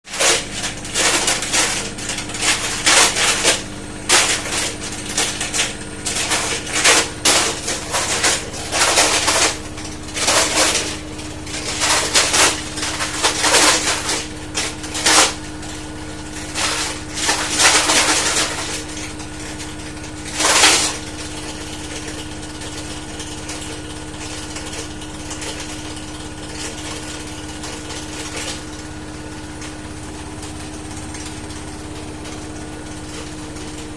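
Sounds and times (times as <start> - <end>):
washing machine drum hum: 0.0 - 33.9
loud clattering and knocking: 0.1 - 33.9.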